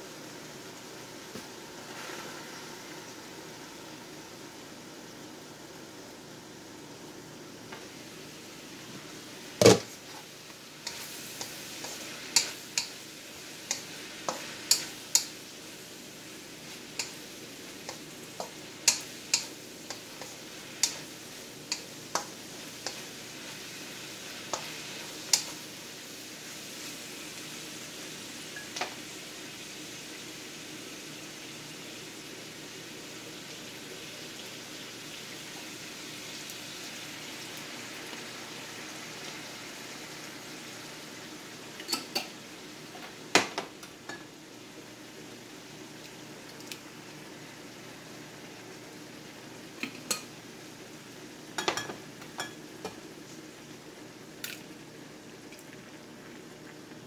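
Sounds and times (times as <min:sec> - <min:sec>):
meat sizzling in frying pan: 0:00.0 - 0:57.0.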